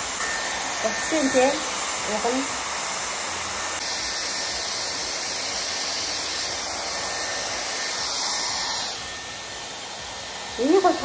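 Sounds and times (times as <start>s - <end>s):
hair styler blowing air: 0.0s - 11.0s.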